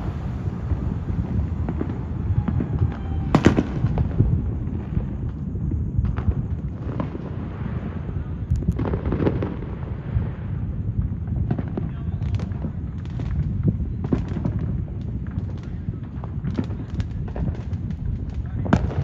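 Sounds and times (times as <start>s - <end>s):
fireworks booming and crackling: 0.0s - 19.0s.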